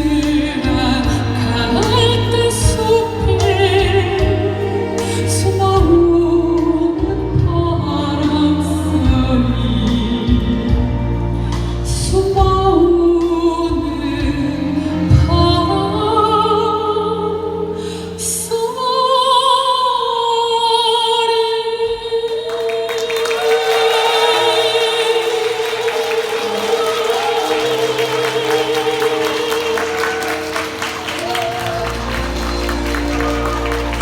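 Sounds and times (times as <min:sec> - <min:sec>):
musical accompaniment: 0:00.0 - 0:19.8, 0:24.3 - 0:34.0
soprano singing: 0:00.0 - 0:34.0.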